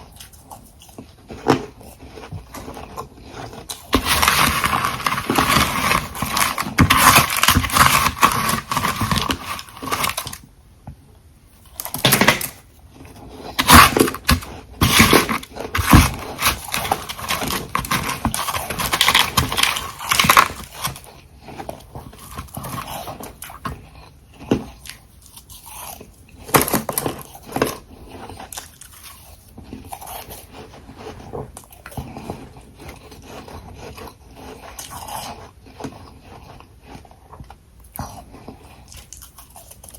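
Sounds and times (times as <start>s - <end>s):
person chewing crunchy ice: 0.0s - 10.5s, 11.7s - 39.9s.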